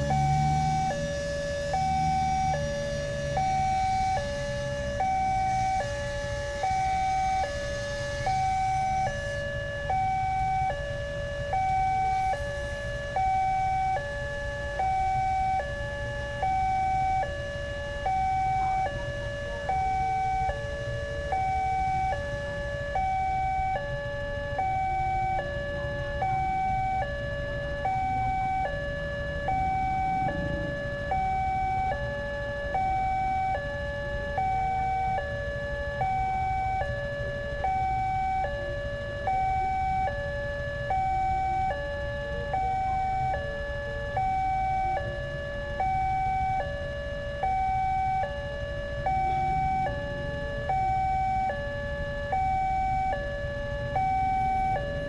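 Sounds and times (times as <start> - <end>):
low engine and traffic rumble: 0.0 - 55.0.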